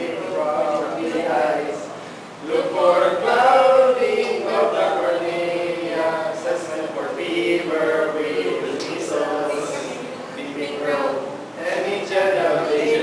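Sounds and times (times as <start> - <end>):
group chanting in unison: 0.0 - 13.0.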